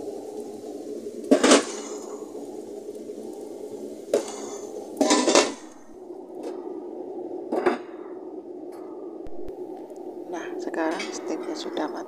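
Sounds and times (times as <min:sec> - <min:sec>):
steady low rush of steam: 0:00.0 - 0:12.0.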